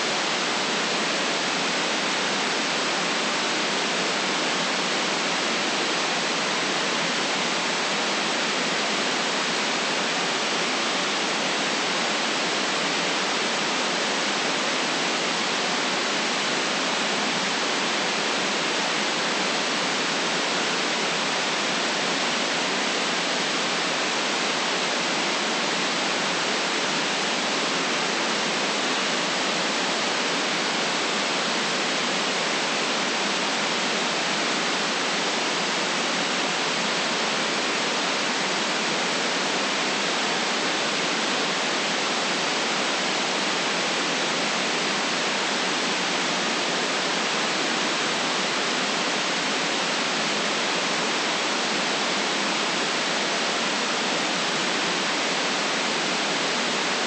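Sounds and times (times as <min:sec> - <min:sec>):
electronic white noise hiss: 0:00.0 - 0:57.0.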